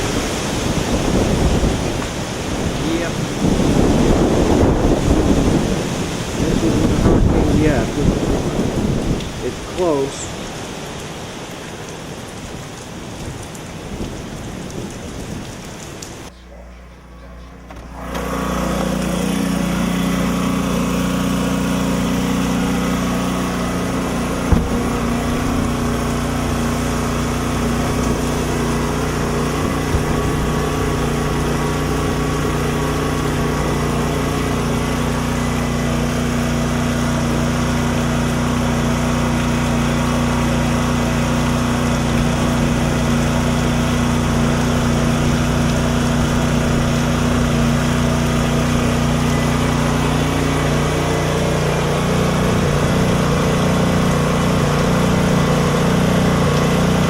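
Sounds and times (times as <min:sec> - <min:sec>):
small engine running: 0:00.0 - 0:10.3, 0:16.3 - 0:57.0.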